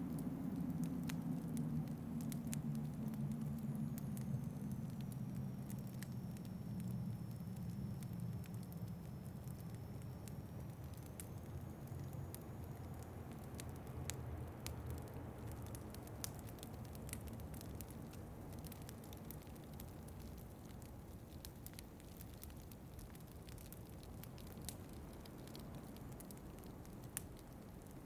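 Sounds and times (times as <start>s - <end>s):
low steady rumble: 0.0s - 28.0s
wood fire crackling: 0.0s - 28.0s.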